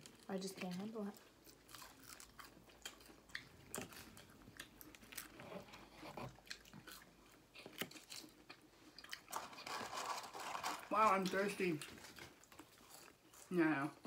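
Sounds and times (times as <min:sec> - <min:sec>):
quiet crunchy chewing: 0:00.0 - 0:14.0.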